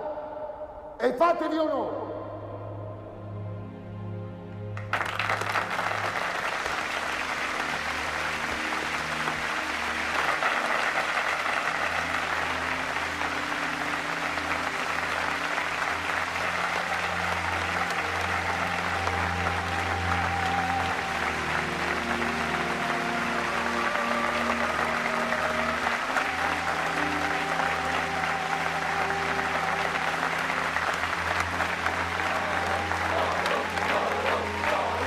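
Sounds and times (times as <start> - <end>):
background music with low notes: 0.0 - 35.0
large crowd applauding: 4.7 - 35.0.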